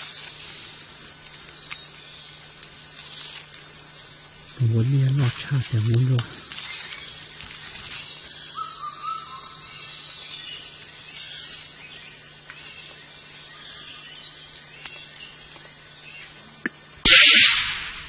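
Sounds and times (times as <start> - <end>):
jungle insects droning: 0.0 - 18.0.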